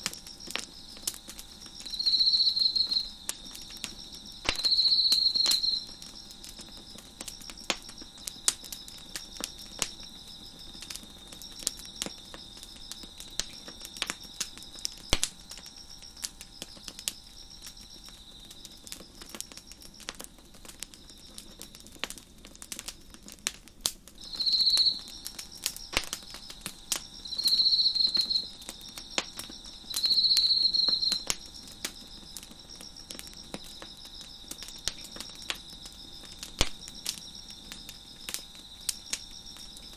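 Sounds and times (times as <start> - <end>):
crickets chirping: 0.0 - 23.3, 24.1 - 39.9
close cricket trills: 0.0 - 23.4, 24.1 - 39.9
wood fire crackling: 0.0 - 39.9.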